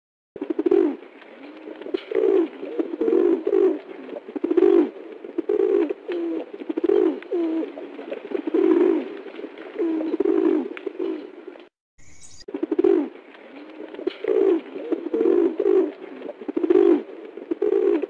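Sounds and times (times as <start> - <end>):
pigeons cooing: 0.4 - 11.5, 12.5 - 18.0.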